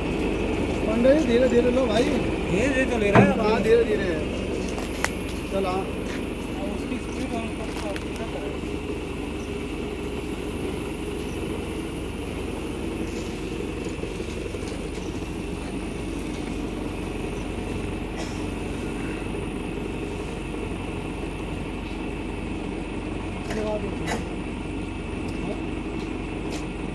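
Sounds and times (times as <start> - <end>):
machine low mechanical drone: 0.0 - 26.9.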